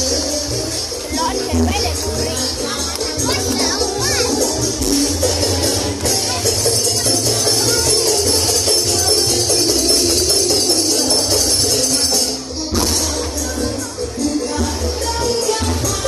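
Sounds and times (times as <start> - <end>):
jingling tambourine-like percussion: 0.0 - 16.0
loud music with heavy bass: 0.0 - 16.0.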